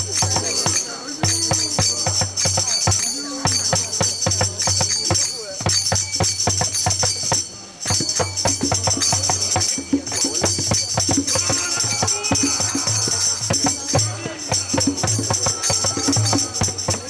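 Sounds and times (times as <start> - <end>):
jingling hand percussion: 0.0 - 17.0
low drum beat: 0.0 - 17.0.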